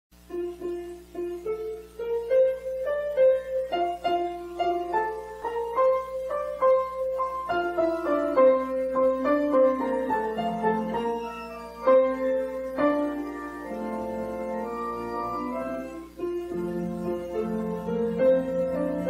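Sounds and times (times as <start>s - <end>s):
piano melody: 0.2s - 19.0s.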